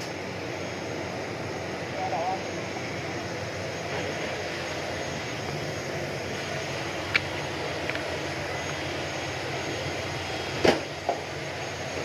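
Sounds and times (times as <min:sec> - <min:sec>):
jet aircraft noise: 0:00.0 - 0:12.0.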